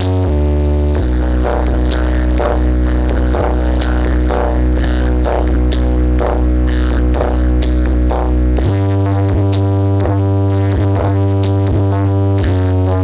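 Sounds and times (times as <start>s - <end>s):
deep bass drone: 0.0s - 13.0s.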